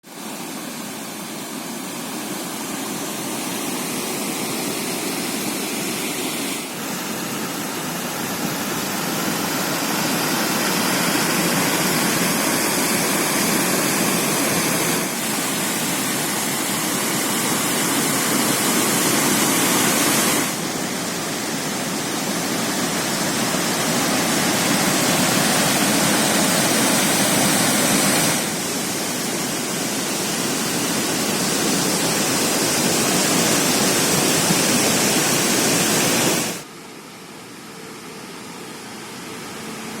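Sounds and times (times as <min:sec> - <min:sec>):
water rushing over dam: 0:00.0 - 0:36.7.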